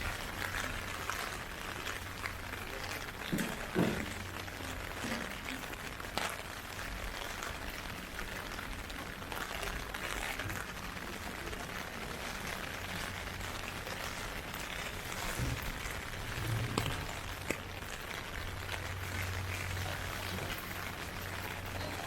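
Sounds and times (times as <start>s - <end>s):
heavy rain hiss: 0.0s - 22.0s
raindrop hits: 0.0s - 22.0s.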